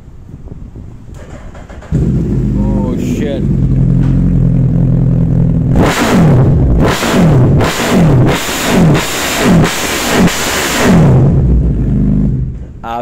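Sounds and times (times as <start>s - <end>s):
motorcycle engine idling and revving: 0.8s - 12.8s.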